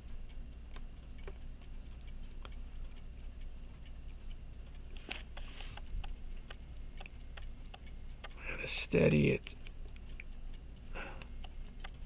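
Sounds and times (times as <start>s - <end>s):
pocket watch ticking: 0.0s - 12.0s.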